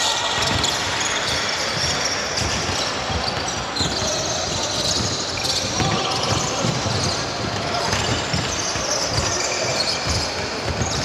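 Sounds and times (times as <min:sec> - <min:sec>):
high-pitched shoe squeaks: 0:00.0 - 0:11.0
basketball bouncing on court: 0:00.4 - 0:11.0.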